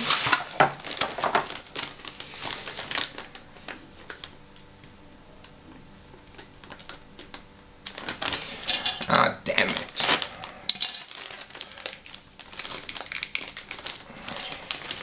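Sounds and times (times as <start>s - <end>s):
plastic sleeve crinkling: 0.0s - 15.0s.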